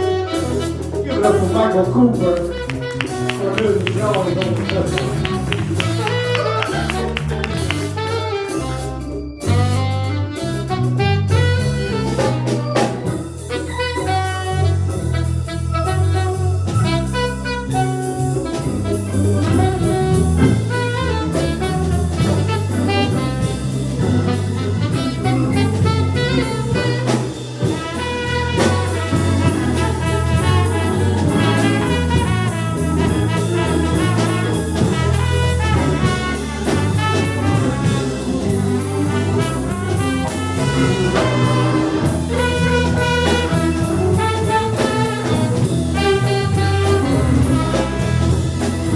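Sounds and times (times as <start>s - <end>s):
drum kit: 0.0s - 48.9s
horns: 0.0s - 48.9s
jazz band playing: 0.0s - 48.9s.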